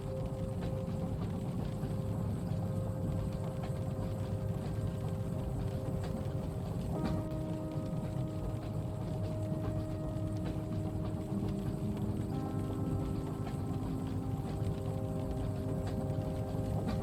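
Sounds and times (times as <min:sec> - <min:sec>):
faint humming tones: 0:00.0 - 0:17.0
train running rumble: 0:00.0 - 0:17.0.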